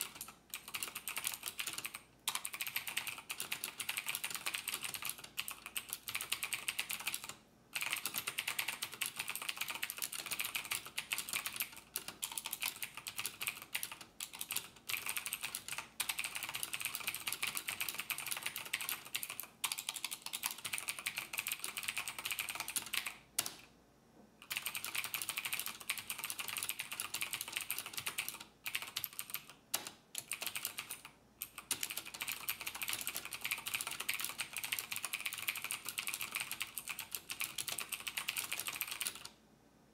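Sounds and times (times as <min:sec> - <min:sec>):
typing on computer keyboard: 0:00.0 - 0:23.7, 0:24.4 - 0:39.4.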